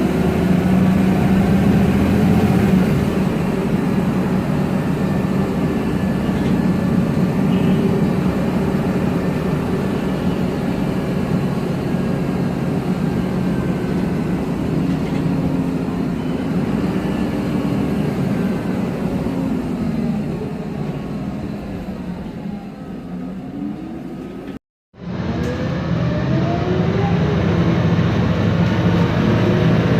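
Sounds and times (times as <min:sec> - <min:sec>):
bus engine drone: 0:00.0 - 0:29.9.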